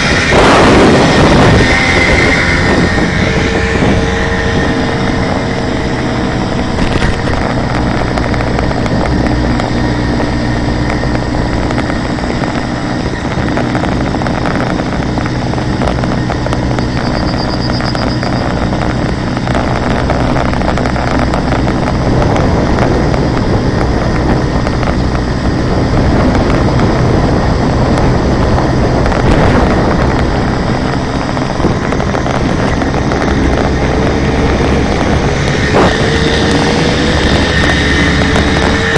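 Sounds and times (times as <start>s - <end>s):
moped engine running: 0.0s - 38.9s.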